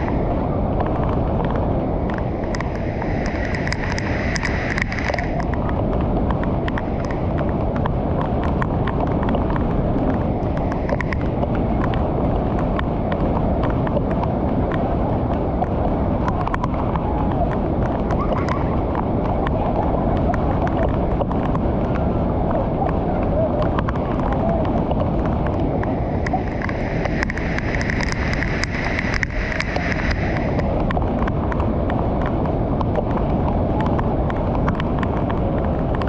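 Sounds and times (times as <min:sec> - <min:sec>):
water rushing over weir: 0:00.0 - 0:36.0
water splashing crackles: 0:00.0 - 0:36.0.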